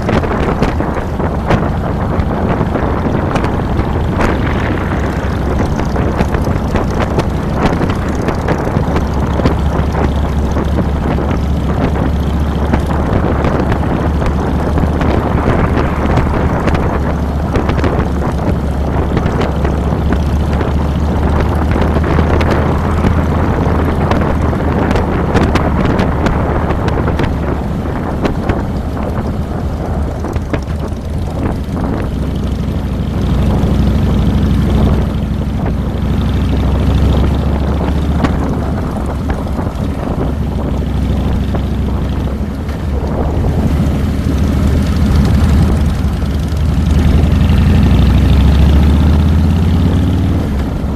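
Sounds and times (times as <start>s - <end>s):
motorcycle engine running: 0.0s - 50.9s
wind on microphone: 0.0s - 50.9s.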